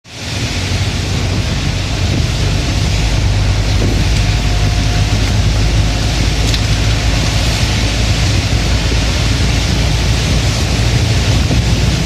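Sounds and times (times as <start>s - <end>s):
low rumble: 0.1s - 12.0s
rain falling: 0.1s - 12.0s.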